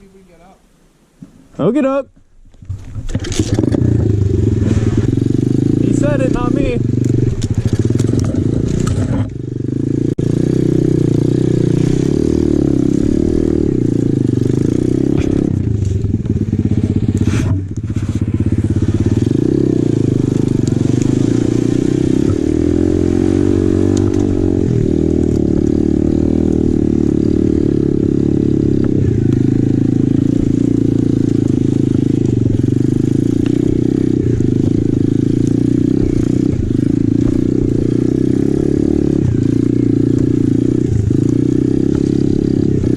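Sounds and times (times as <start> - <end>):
pit bike engine under load: 2.6 - 42.9.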